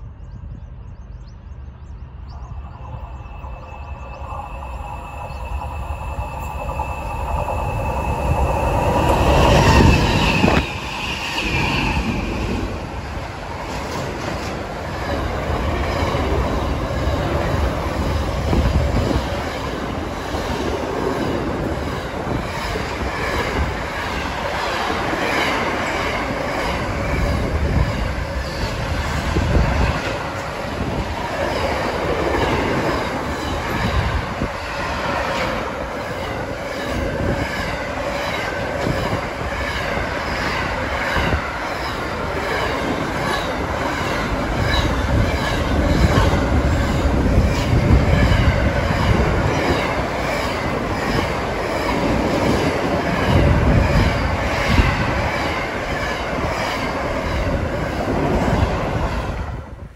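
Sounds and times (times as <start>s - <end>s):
diesel locomotives passing fast: 0.0s - 59.9s
wind buffeting microphone: 0.0s - 59.9s.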